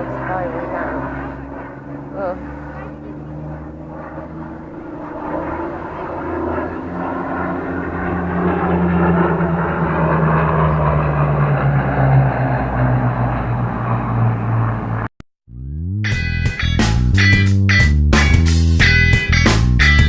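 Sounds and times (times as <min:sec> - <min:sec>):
propeller aircraft engine droning: 0:00.0 - 0:15.2, 0:16.0 - 0:20.0.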